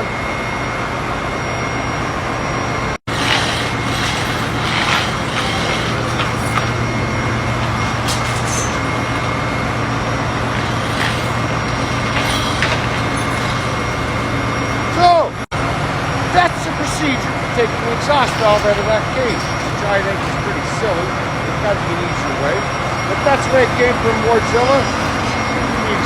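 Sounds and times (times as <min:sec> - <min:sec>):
engine room machinery drone: 0:00.0 - 0:26.0.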